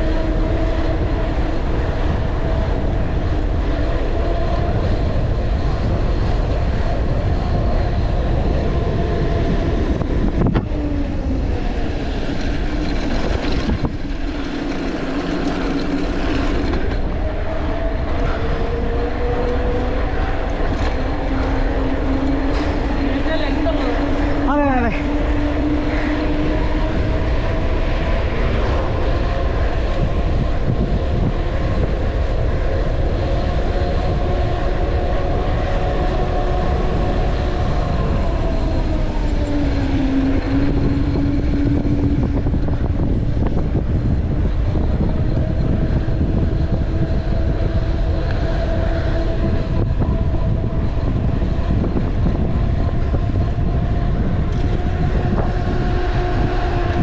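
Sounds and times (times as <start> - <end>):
bike tyre hum: 0.0 - 57.0
wind rushing over microphone: 0.0 - 57.0.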